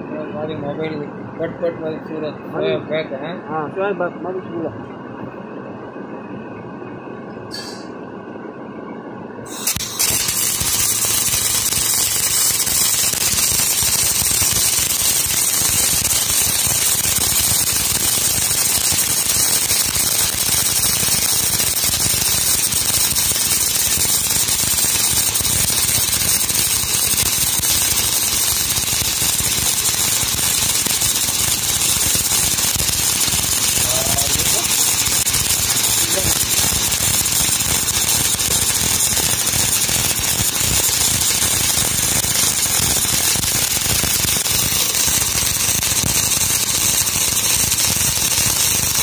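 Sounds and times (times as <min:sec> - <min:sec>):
welding arc crackling and hissing: 0:09.5 - 0:49.0.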